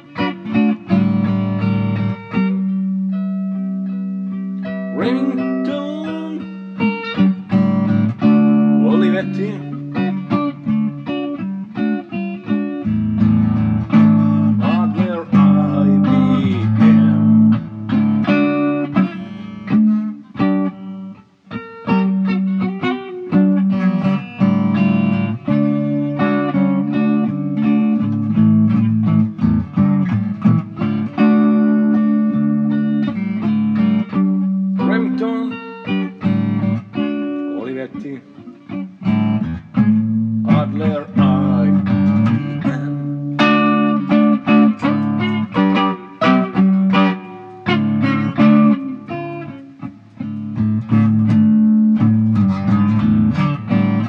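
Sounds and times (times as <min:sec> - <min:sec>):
guitar: 0:00.0 - 0:54.0.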